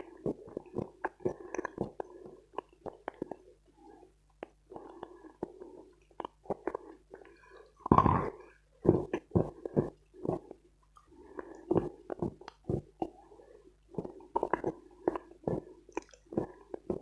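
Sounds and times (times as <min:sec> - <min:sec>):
mouth chewing noises: 0:00.0 - 0:03.5, 0:04.3 - 0:13.2, 0:14.0 - 0:17.0.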